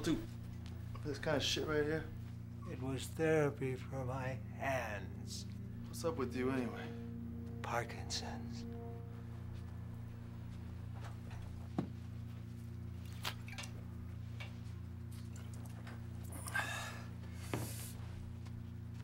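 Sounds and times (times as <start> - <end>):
steady low drone: 0.0 - 19.0.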